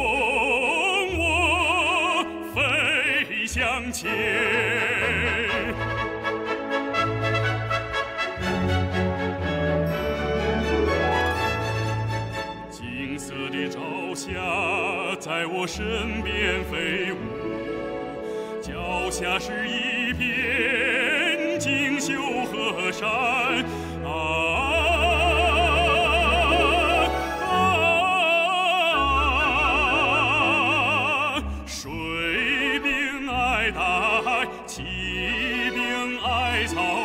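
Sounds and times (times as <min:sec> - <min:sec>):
operatic singing: 0:00.0 - 0:37.0
instrumental accompaniment: 0:00.1 - 0:37.0.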